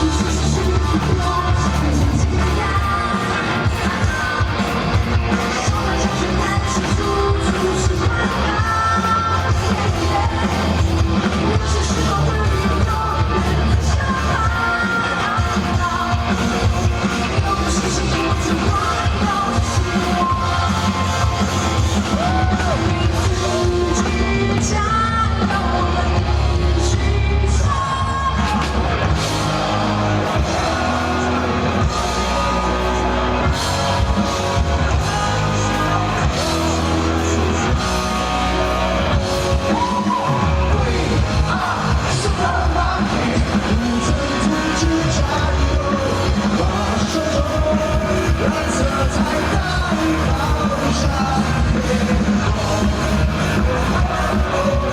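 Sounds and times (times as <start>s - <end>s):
rock band playing live: 0.0s - 54.9s
singer with shouted vocals: 0.0s - 54.9s.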